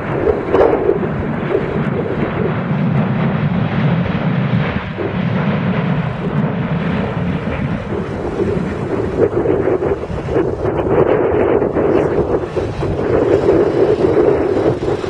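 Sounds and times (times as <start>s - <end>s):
jet engine roar: 0.0s - 15.0s
wind buffeting microphone: 0.0s - 15.0s.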